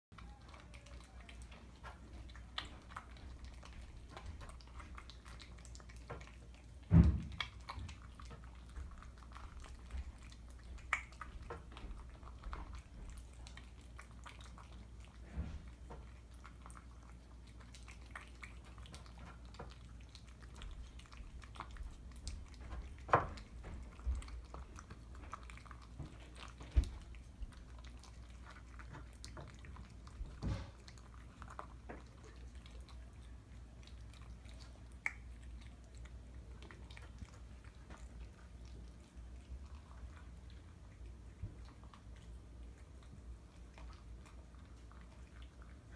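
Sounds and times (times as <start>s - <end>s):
cats chewing wet food: 0.1s - 45.9s.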